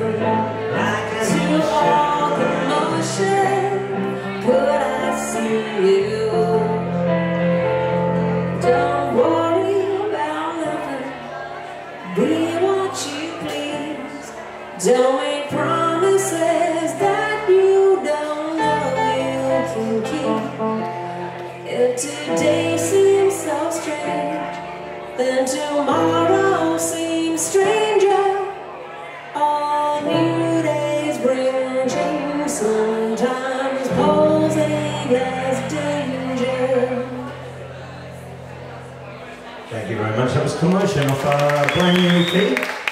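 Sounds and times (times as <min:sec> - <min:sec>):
woman singing: 0:00.0 - 0:38.4.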